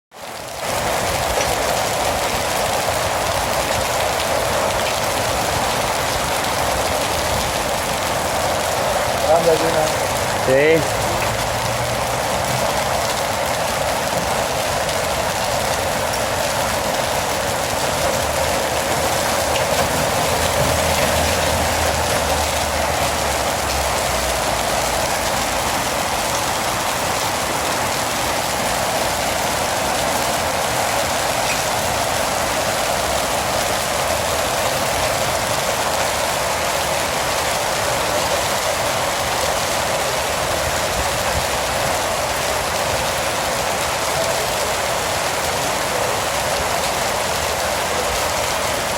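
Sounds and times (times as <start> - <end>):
heavy rain and hail: 0.1 - 48.9.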